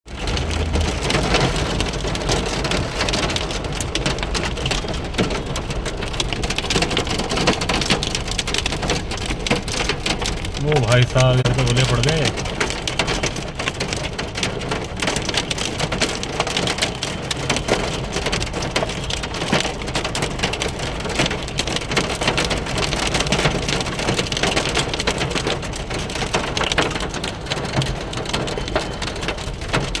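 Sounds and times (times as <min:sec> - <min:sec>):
hail and heavy rain pelting: 0:00.1 - 0:30.0.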